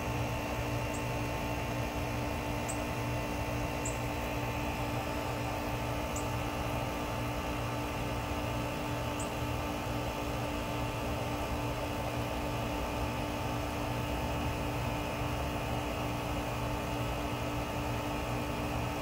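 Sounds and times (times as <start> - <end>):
heat pump humming and whining: 0.0 - 19.0.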